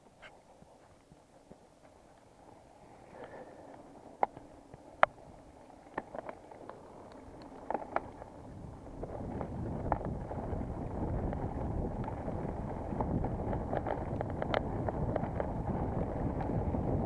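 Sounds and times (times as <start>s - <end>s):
tyres rolling on trail: 0.0s - 17.0s
wind noise: 2.4s - 17.0s
bike clicks and knocks: 2.5s - 17.0s.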